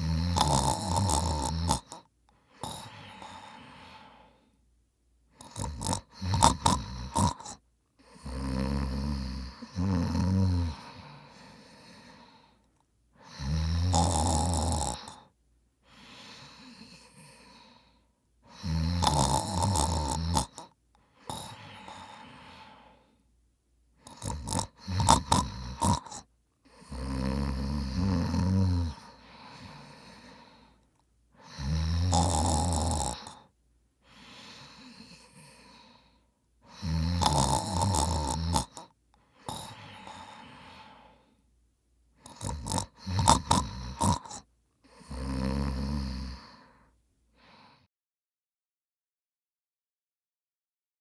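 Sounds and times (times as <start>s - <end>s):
man snoring: 0.0s - 4.4s, 5.4s - 12.6s, 13.2s - 15.3s, 15.9s - 17.9s, 18.5s - 23.0s, 24.0s - 30.8s, 31.4s - 41.2s, 42.2s - 46.8s
quiet breaths: 0.0s - 47.9s.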